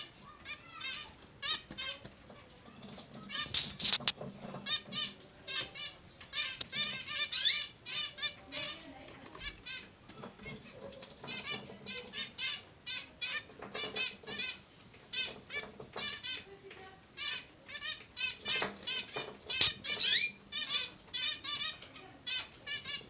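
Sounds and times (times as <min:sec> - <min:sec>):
finch chicks begging chirps: 0:00.0 - 0:16.6, 0:17.2 - 0:23.0.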